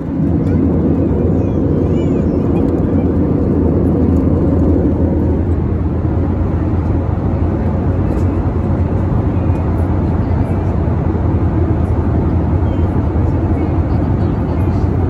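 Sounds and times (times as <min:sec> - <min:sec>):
jet cabin engine drone: 0:00.0 - 0:15.0.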